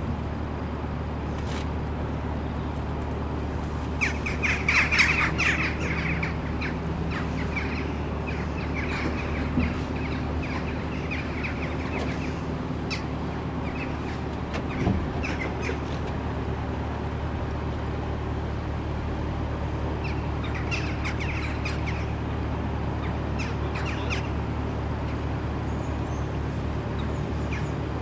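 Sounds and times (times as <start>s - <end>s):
diesel engine humming: 0.0s - 28.0s
flock of birds calling: 2.9s - 18.6s, 19.2s - 28.0s.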